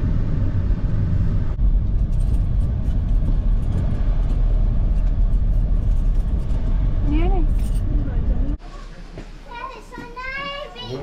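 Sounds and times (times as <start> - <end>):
car engine and road rumble: 0.0 - 10.6.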